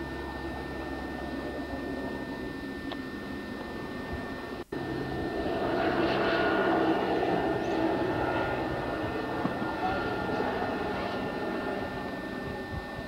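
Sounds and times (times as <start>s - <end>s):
engine-like drone: 0.0s - 13.0s.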